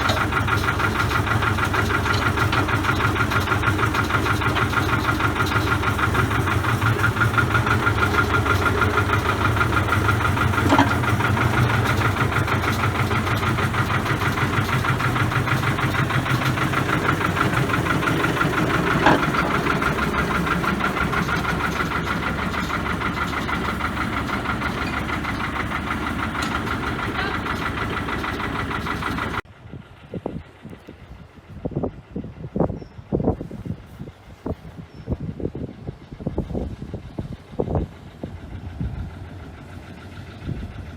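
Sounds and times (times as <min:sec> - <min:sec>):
locomotive diesel engine running: 0:00.0 - 0:40.9.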